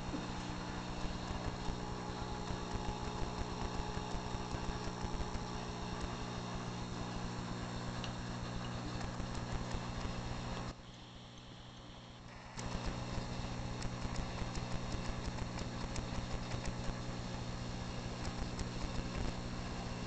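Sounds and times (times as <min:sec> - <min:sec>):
pump electrical hum: 0:00.0 - 0:20.0.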